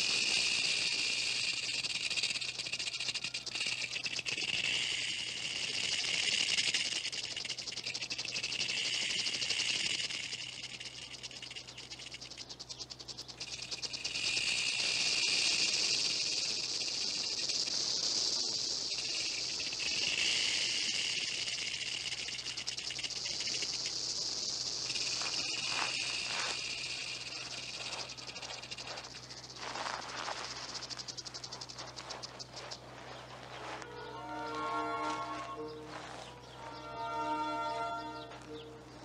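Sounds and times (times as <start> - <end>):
rattlesnakes rattling: 0.0 - 39.0.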